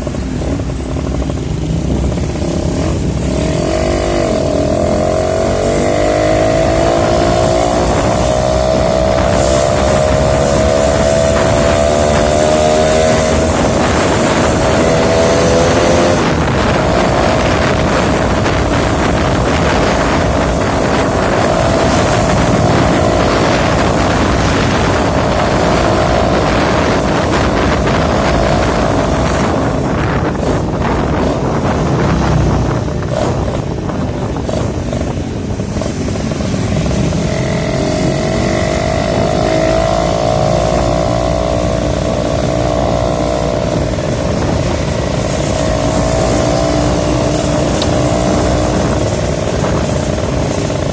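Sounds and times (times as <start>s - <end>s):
motorcycle engine accelerating: 0.0s - 50.9s
wind buffeting microphone: 0.0s - 50.9s.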